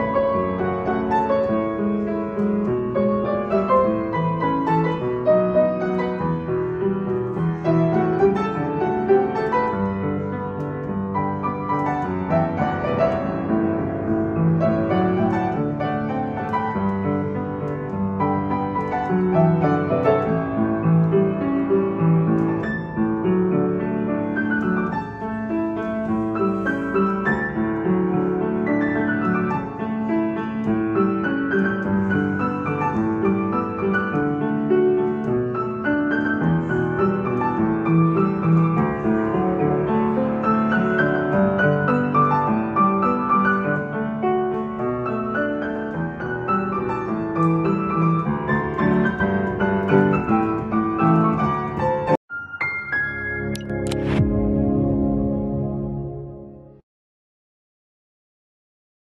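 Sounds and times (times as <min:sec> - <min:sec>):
upright piano playing: 0:00.0 - 0:56.8.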